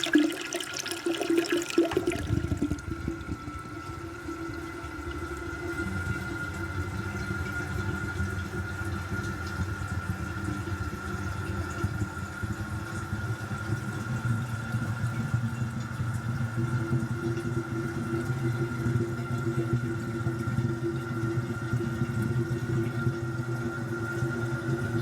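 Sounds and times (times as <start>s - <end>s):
toilet tank refilling hiss: 0.0s - 25.0s.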